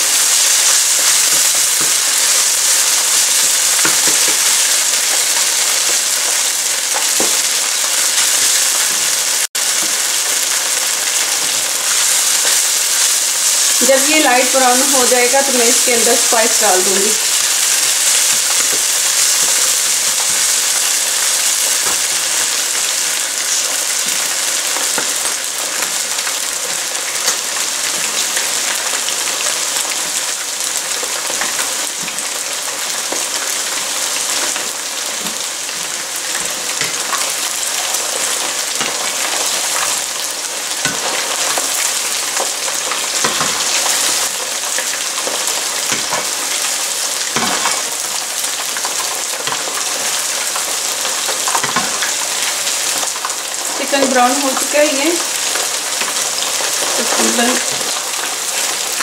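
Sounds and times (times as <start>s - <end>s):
chicken sizzling in oil: 0.0s - 59.0s.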